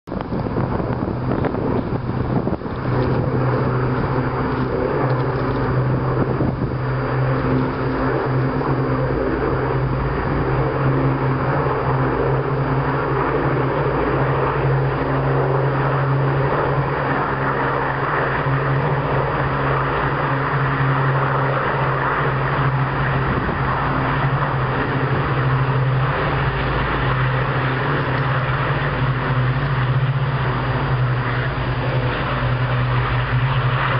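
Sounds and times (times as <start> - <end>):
piston aircraft engines droning: 0.0 - 33.9.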